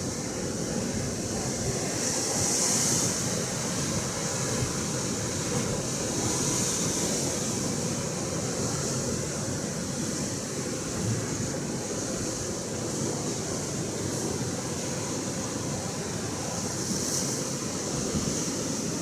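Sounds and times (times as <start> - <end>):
ocean surf washing on shore: 0.0 - 19.0.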